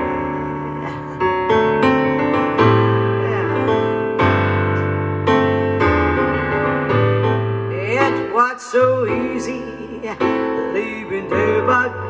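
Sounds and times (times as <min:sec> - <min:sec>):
piano chords over loudspeakers: 0:00.0 - 0:12.0.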